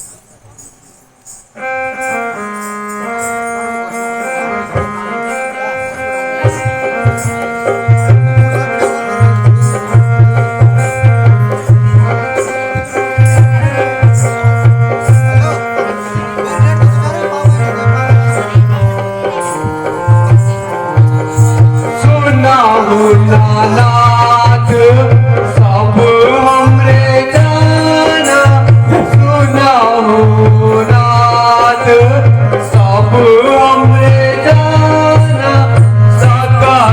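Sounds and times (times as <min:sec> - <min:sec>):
instrumental melody: 0:00.0 - 0:36.9
heavy drum beat: 0:06.4 - 0:36.9.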